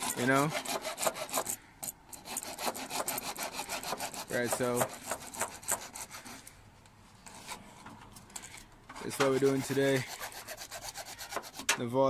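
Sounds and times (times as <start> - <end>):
rapid rasping scraping strokes: 0.0 - 6.6, 8.4 - 12.0.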